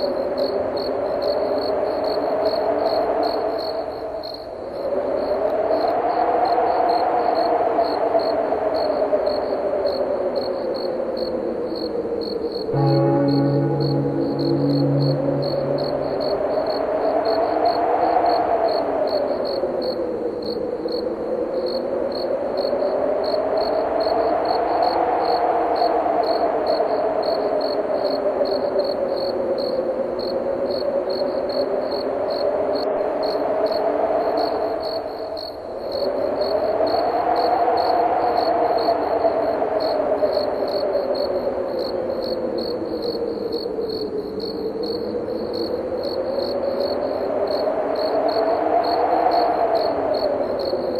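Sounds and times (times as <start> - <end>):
crickets chirping: 0.0 - 50.9
wind whistling in gusts: 0.0 - 50.9.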